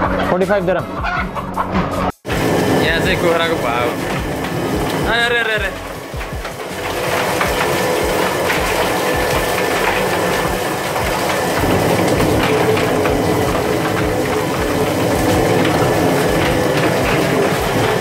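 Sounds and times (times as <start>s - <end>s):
chicken plucker clattering: 1.0s - 18.0s
hose water spraying: 2.3s - 18.0s.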